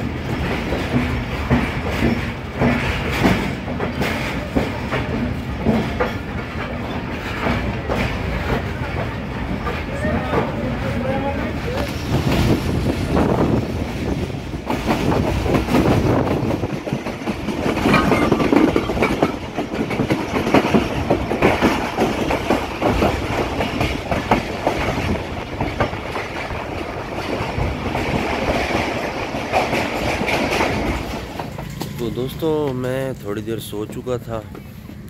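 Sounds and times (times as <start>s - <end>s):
wheels clattering over rail joints: 0.0s - 34.8s
train rumbling: 0.0s - 35.0s.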